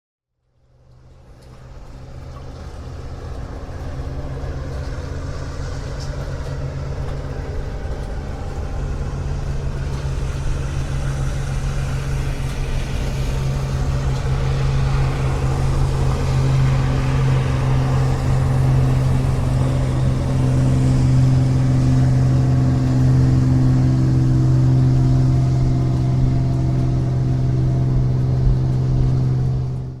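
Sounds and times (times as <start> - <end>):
motorboat engine droning: 0.4 - 30.0.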